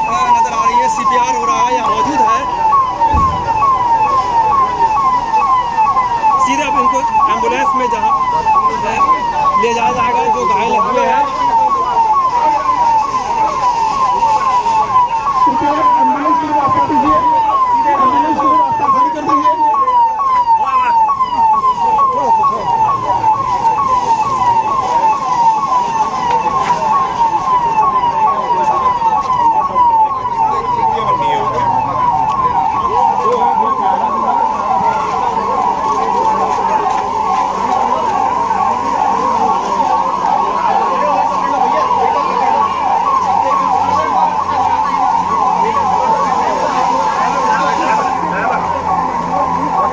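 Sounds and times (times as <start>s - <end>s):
electronic police siren: 0.0s - 49.9s.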